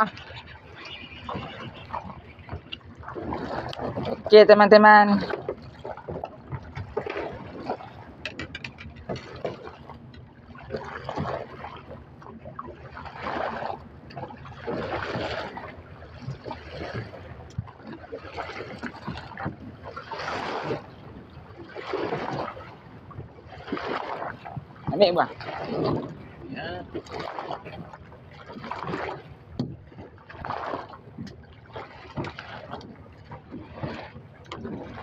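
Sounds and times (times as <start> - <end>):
small waves slapping boat hull: 0.0 - 35.0.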